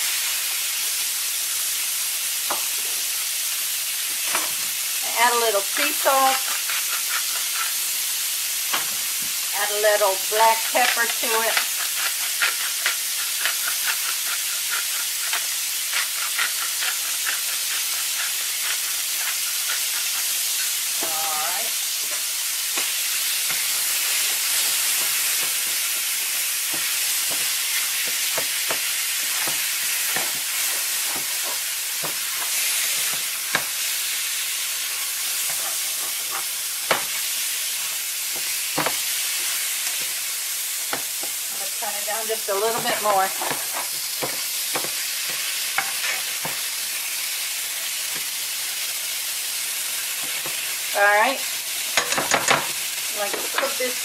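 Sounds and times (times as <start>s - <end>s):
food sizzling in frying pan: 0.0s - 54.0s
spatula scraping and knocking pan: 4.2s - 8.0s, 8.6s - 34.1s, 34.8s - 47.0s, 51.9s - 54.0s.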